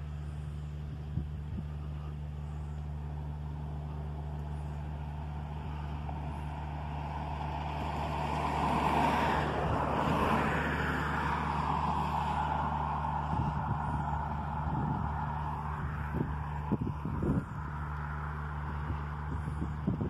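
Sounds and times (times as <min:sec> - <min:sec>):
steady low hum: 0:00.0 - 0:20.0
car passing by: 0:02.0 - 0:20.0.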